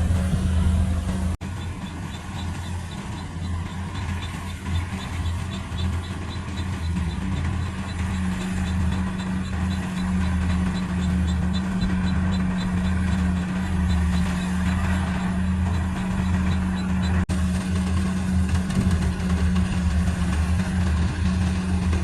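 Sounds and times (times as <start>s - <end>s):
light regular ticking: 0.0s - 21.8s
combine harvester diesel engine: 0.0s - 22.0s.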